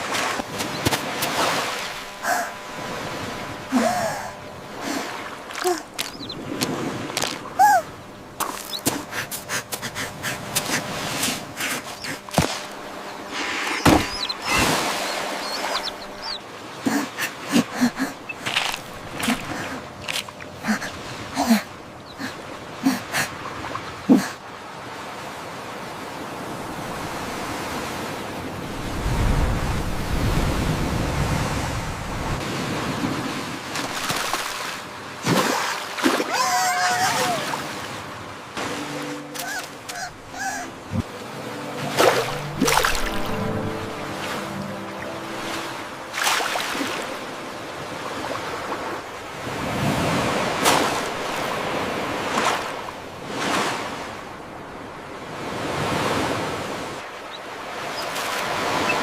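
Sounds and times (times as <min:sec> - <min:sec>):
ocean waves on a beach: 0:00.0 - 0:59.0
wind: 0:00.0 - 0:59.0.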